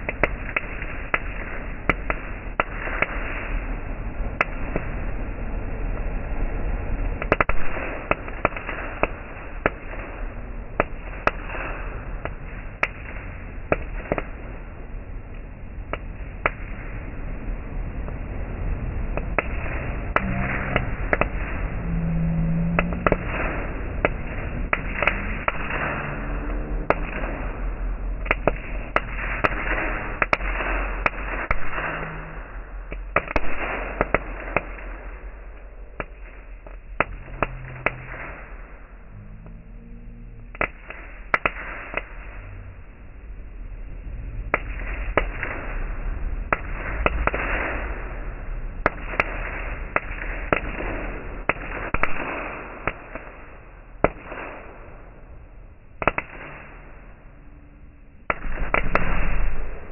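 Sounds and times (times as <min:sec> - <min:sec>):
firework hissing sparks: 0:00.0 - 0:38.9, 0:40.5 - 0:42.6, 0:44.5 - 0:55.0, 0:56.0 - 0:57.0, 0:58.3 - 0:59.9
firework crackles and pops: 0:00.0 - 0:59.9.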